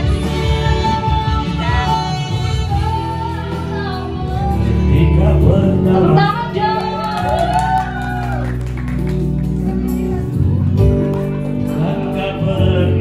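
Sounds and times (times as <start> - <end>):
person singing: 0.0 - 7.6, 9.7 - 13.0
steady musical accompaniment: 0.0 - 13.0.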